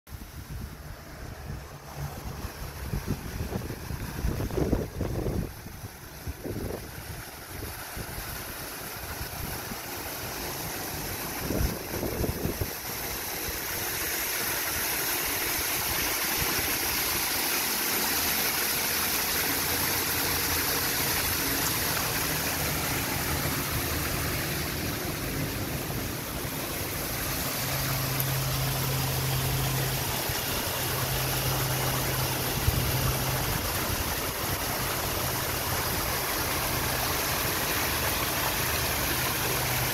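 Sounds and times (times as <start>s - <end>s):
paddlewheel churning splashing water: 0.1s - 39.9s.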